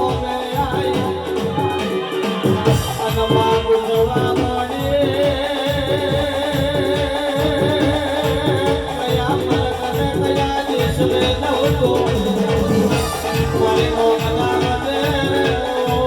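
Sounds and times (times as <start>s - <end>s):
fast drum beat: 0.0s - 16.0s
held melody line: 0.0s - 16.0s.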